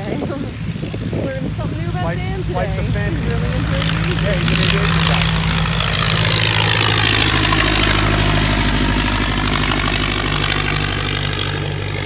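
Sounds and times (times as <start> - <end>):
biplane engine droning past: 0.0 - 12.0.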